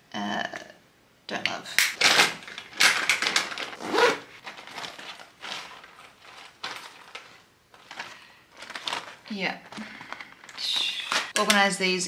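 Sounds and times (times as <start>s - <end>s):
plastic wrapping rustling: 1.9s - 11.8s.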